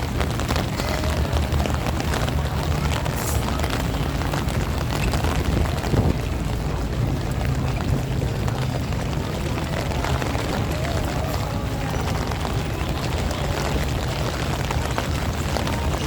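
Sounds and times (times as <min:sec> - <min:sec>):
heavy rain pattering: 0:00.0 - 0:16.0
strong wind buffeting microphone: 0:00.0 - 0:16.0.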